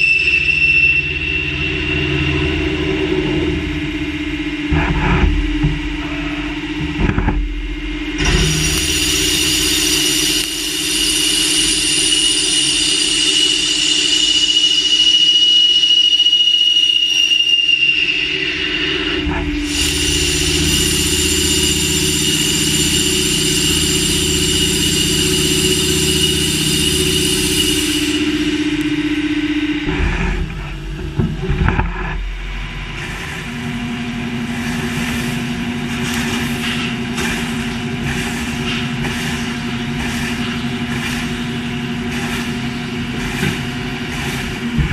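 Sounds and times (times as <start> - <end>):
high-pitched spindle whine: 0.0 - 44.8
machine hum: 0.0 - 44.9.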